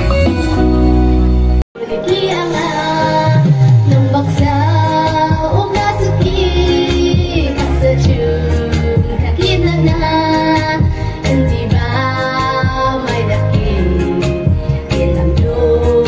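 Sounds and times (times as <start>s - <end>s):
backing music: 0.0s - 16.0s
woman singing into microphone: 1.8s - 16.0s.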